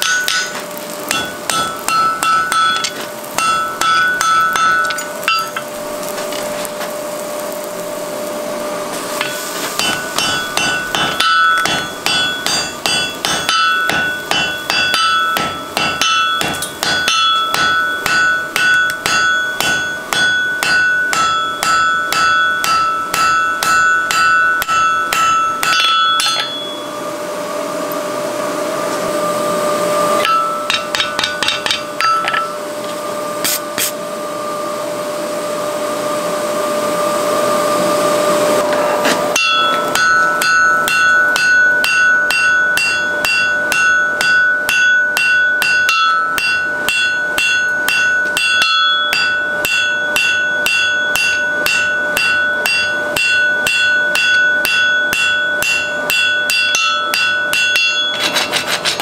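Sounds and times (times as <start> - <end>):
hammer striking hot iron on anvil: 0.0 - 6.5, 9.2 - 26.9, 30.2 - 34.0, 38.6 - 59.0
steady hum: 0.0 - 59.0.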